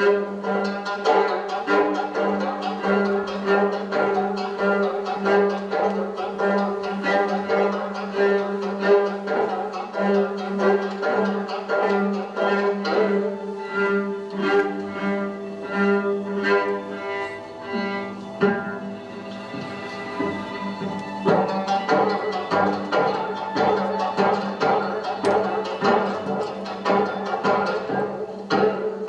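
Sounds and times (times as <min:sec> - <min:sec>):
bowed string dance music: 0:00.0 - 0:29.0.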